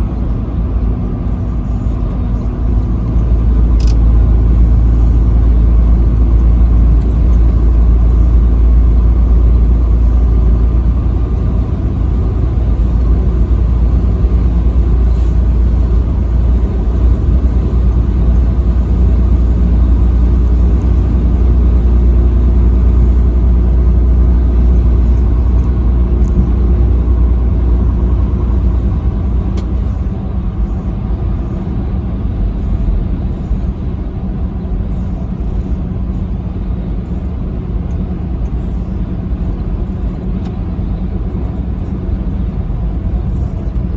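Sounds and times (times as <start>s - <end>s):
vehicle driving on highway: 0.0s - 43.9s.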